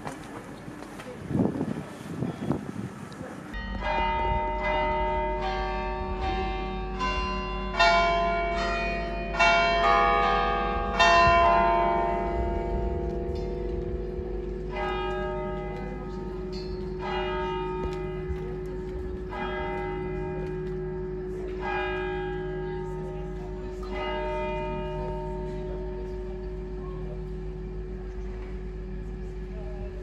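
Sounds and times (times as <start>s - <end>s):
church bell tolling: 3.5s - 30.0s.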